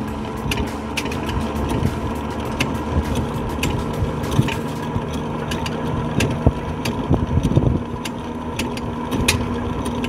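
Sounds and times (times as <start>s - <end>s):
metallic chain clicks: 0.0s - 10.0s
winch motor humming: 0.0s - 10.0s.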